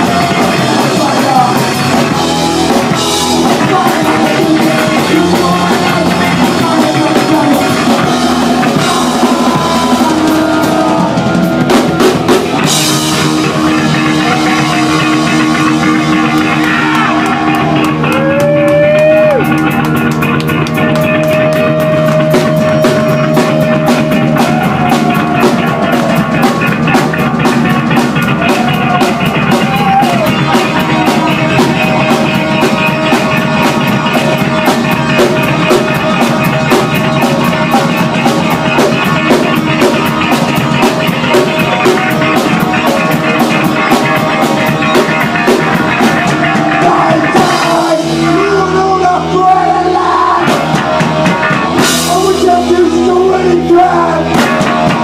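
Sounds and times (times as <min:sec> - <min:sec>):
bass guitar: 0:00.0 - 0:55.0
drum kit beat: 0:00.0 - 0:55.0
electric guitars: 0:00.0 - 0:55.0.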